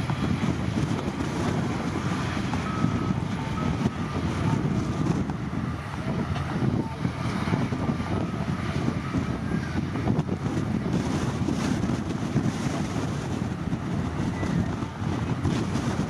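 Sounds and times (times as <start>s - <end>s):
diesel engine rumbling: 0.0s - 16.0s
wind buffeting microphone: 0.0s - 16.0s.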